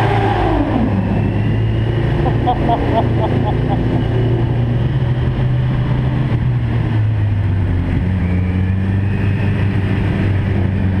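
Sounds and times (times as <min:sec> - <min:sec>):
vehicle engine droning in tunnel: 0:00.0 - 0:11.0.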